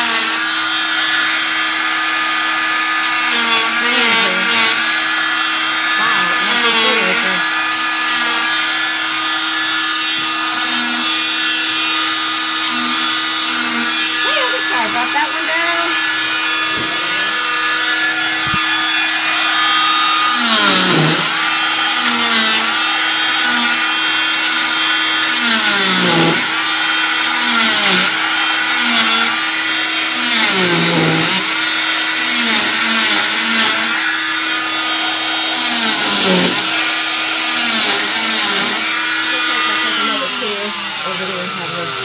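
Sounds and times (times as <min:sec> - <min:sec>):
cast saw whining: 0:00.0 - 0:42.0.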